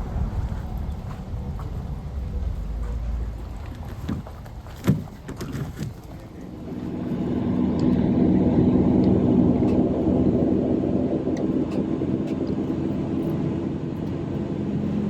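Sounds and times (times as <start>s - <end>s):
vehicle engine running: 0.0s - 4.8s, 6.1s - 15.0s.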